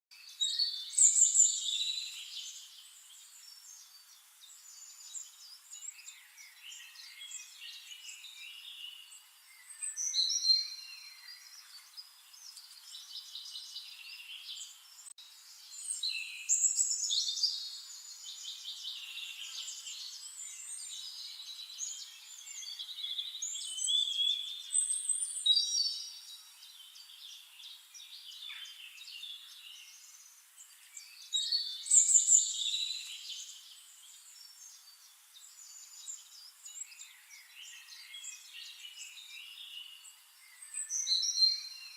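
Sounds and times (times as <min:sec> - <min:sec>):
songbirds singing: 0:00.1 - 0:41.9.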